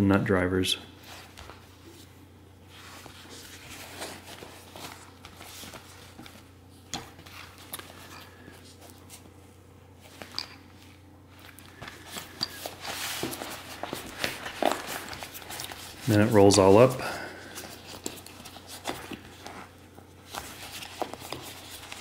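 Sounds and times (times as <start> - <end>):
fabric rustling: 1.0 - 22.0.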